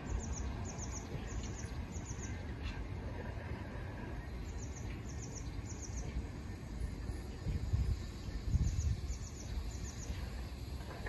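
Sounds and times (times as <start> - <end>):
bird chirping: 0.0 - 2.8, 3.7 - 11.0
freight train rumbling past: 0.0 - 11.0.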